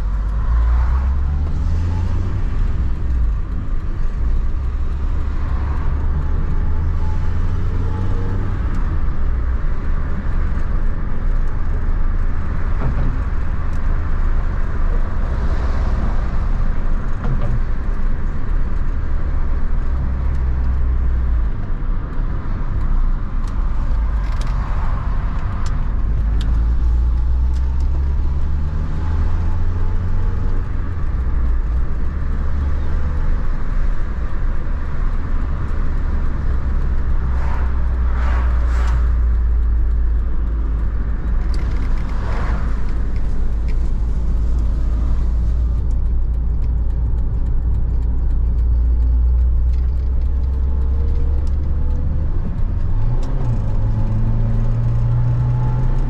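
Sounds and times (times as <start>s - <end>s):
road noise: 0.0s - 56.0s
van engine running: 0.0s - 56.0s.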